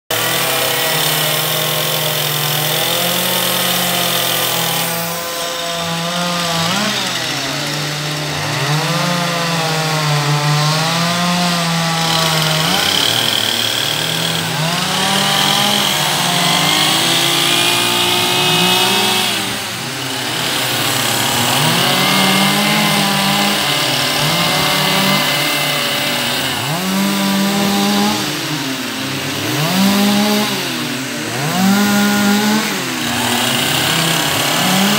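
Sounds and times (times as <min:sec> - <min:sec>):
chainsaw revving cutting wood: 0:00.1 - 0:34.9.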